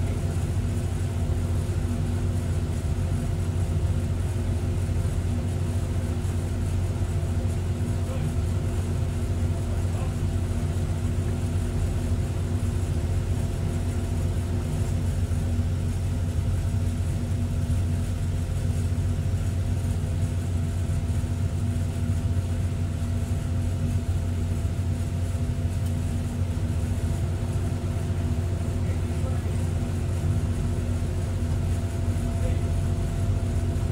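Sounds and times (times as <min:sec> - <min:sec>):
excavator diesel engine idling: 0:00.0 - 0:33.9.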